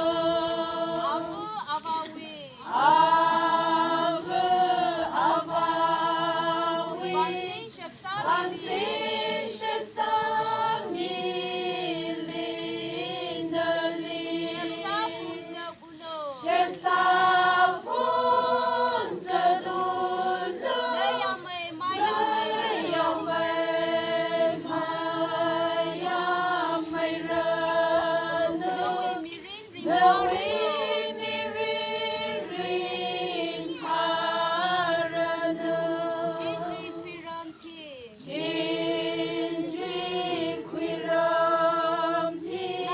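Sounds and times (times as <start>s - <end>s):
group singing without instruments: 0.0s - 42.9s.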